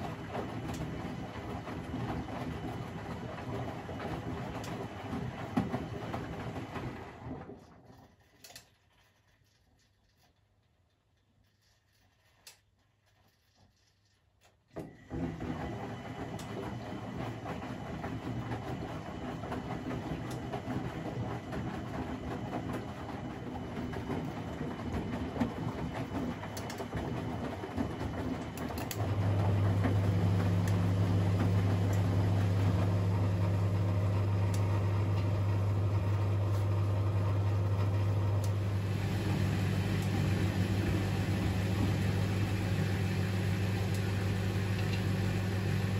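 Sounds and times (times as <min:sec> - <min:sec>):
washing machine rumble and clatter: 0:00.0 - 0:45.9.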